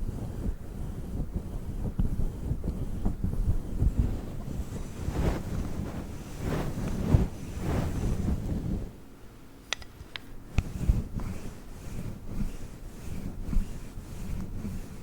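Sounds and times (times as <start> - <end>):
roller rustling on microphone cover: 0.0 - 9.1, 9.8 - 15.0.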